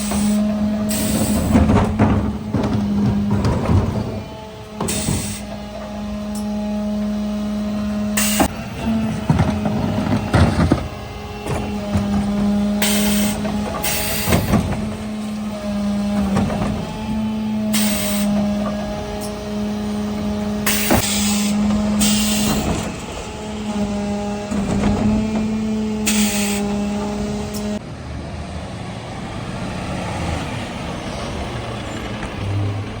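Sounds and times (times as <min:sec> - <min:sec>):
low engine rumble: 0:00.0 - 0:33.0
refuse truck mechanical whine: 0:00.0 - 0:33.0.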